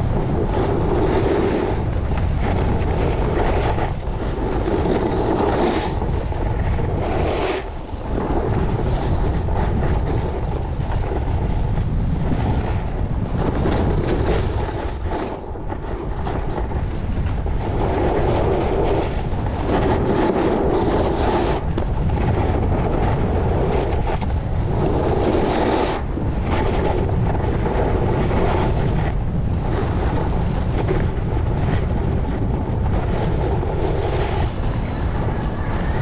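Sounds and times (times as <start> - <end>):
ski edges scraping on snow: 0.0 - 11.2, 11.8 - 31.2, 33.0 - 36.0
wind rushing over microphone: 0.0 - 36.0.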